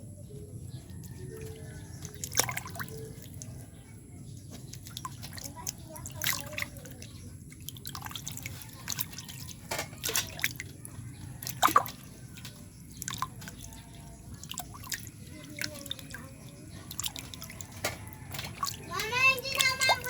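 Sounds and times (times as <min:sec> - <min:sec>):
water splashing and dripping: 0:00.8 - 0:20.0.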